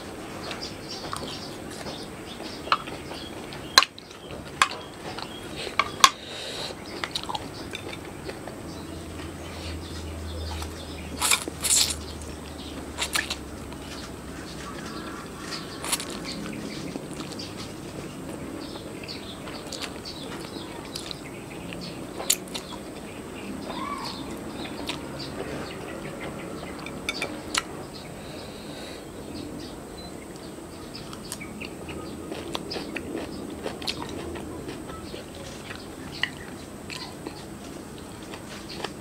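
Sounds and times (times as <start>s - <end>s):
chewing: 0.4s - 23.2s, 30.4s - 39.0s.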